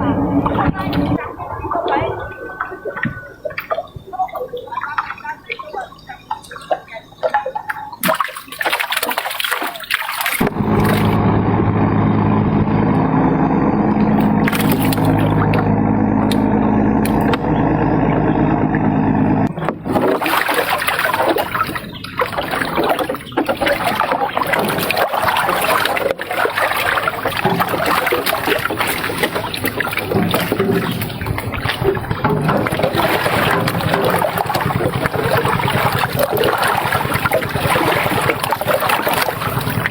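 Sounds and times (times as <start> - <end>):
water rushing and splashing: 0.0 - 11.2, 14.0 - 17.7, 18.6 - 39.9
boat motor running: 0.0 - 39.9.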